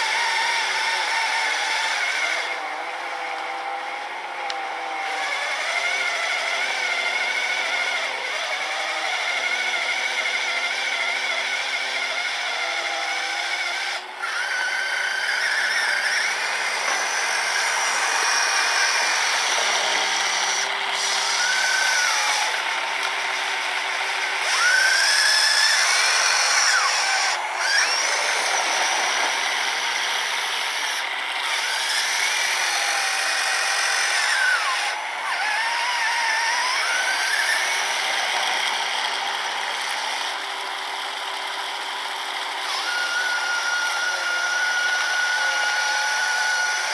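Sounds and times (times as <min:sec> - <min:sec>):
electric motors whining: 0:00.0 - 0:46.9.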